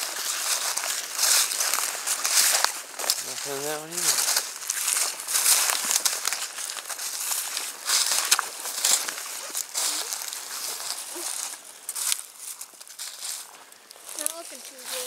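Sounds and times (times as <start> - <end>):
footsteps through dry grass: 0.0 - 15.0.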